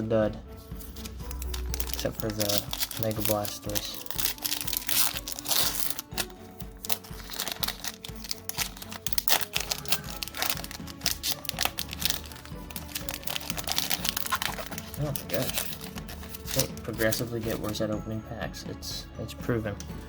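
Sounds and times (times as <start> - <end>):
background music with steady beat: 0.0 - 20.0
foil wrapper crinkling and tearing: 1.0 - 17.7.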